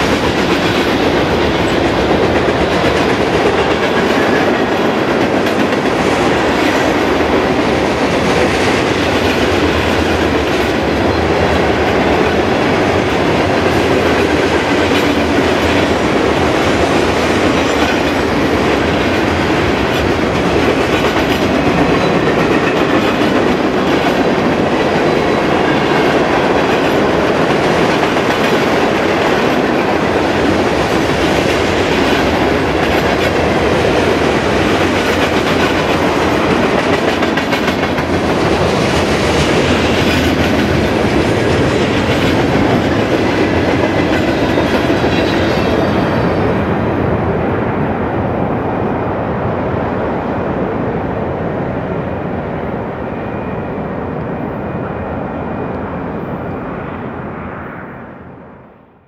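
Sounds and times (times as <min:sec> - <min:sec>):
train wheels rolling on rails: 0:00.0 - 0:57.9.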